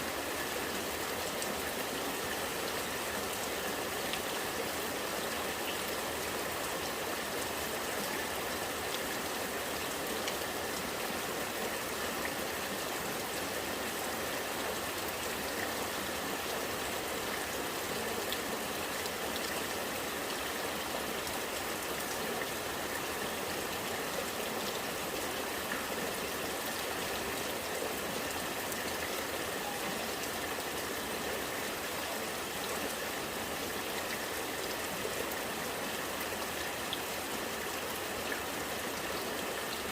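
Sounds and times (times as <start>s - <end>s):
rainwater running and trickling: 0.0s - 39.9s.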